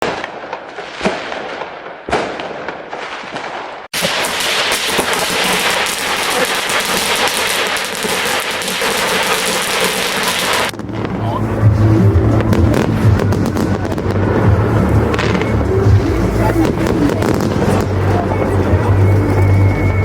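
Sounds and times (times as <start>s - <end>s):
firework bangs: 0.0s - 20.0s
fireworks crackling: 0.0s - 20.0s.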